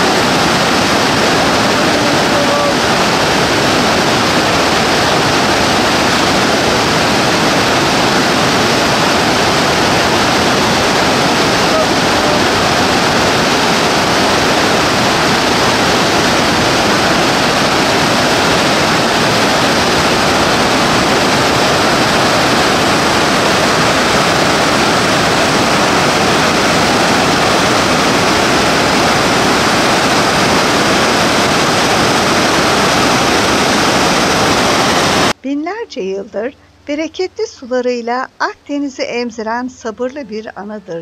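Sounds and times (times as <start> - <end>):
white water rushing over rocks: 0.0 - 35.4.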